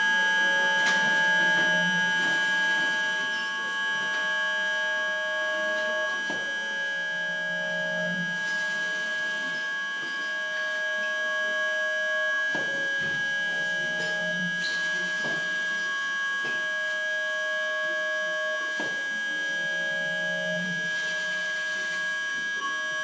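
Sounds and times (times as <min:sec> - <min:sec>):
high steady synth tone: 0:00.0 - 0:23.0
lower synth tone: 0:00.0 - 0:23.0.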